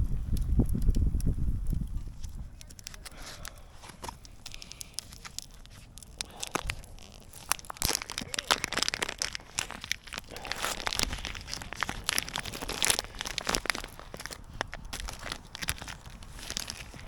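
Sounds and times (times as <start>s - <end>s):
crinkling and crunching: 0.0s - 17.0s.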